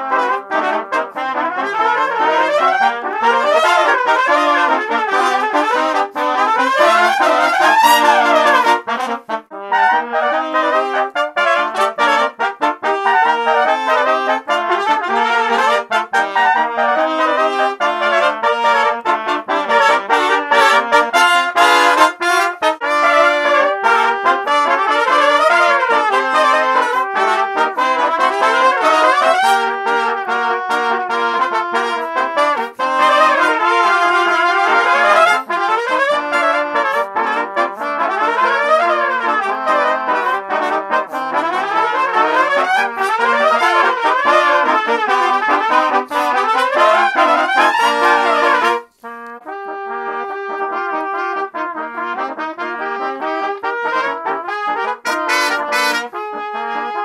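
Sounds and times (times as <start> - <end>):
trumpets playing in harmony: 0.0 - 57.0.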